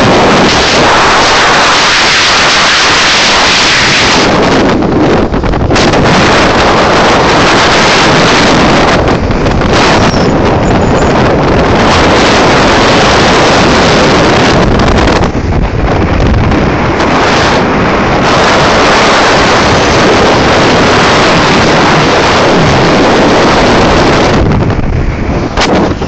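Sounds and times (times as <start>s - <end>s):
fast boat outboard motors: 0.0s - 26.0s
wind buffeting microphone: 0.0s - 26.0s.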